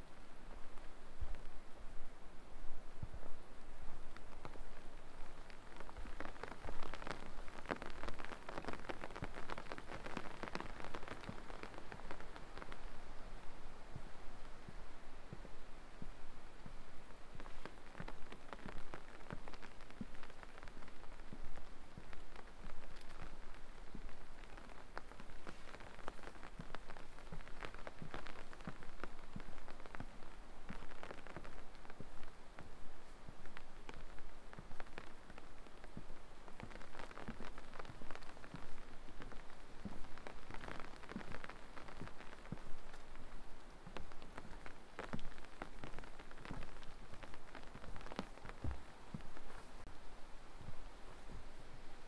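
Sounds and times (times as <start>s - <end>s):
light rain pattering: 0.0s - 52.0s.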